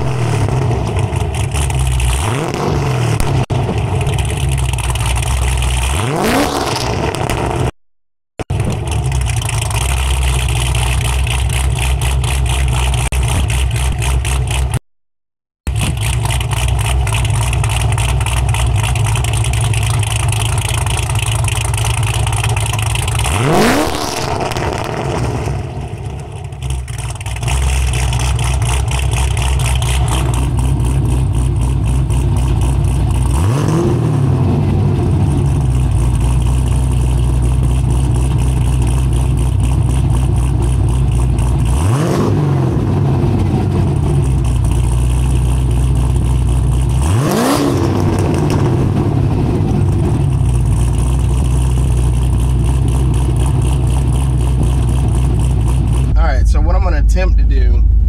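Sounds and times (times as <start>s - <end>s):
car engine idling and revving: 0.0s - 7.8s, 8.4s - 14.8s, 15.6s - 58.0s.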